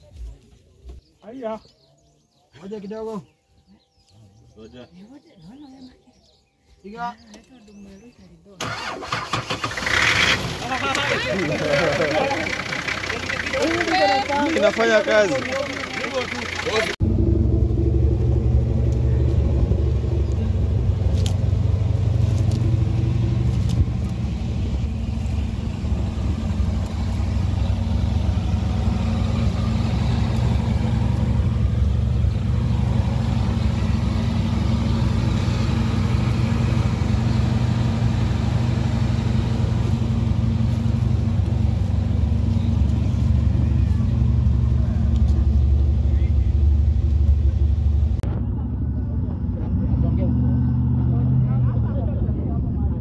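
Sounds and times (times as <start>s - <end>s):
truck engine idling: 8.6s - 53.0s.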